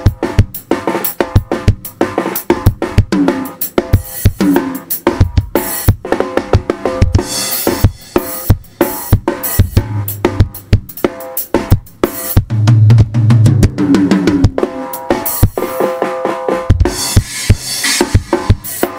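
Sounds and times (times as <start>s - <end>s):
bass drum and snare hits: 0.0s - 18.9s.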